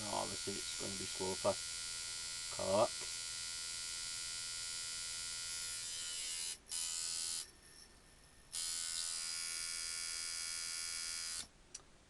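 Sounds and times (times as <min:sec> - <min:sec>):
tattoo machine buzzing: 0:00.0 - 0:07.5, 0:08.5 - 0:11.5.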